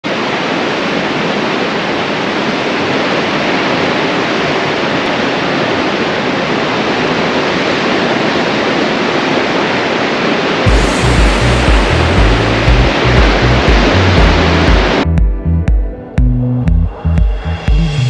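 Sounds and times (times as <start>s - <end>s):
steady rushing noise: 0.0s - 15.8s.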